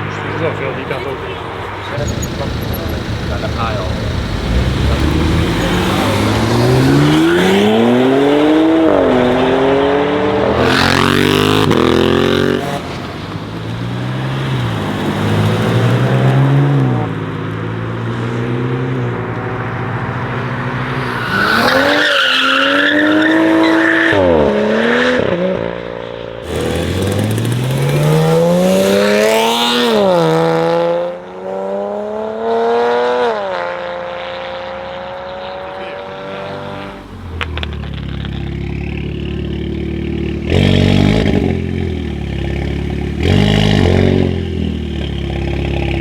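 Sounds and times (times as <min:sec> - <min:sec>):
car engines accelerating hard: 0:00.0 - 0:46.0.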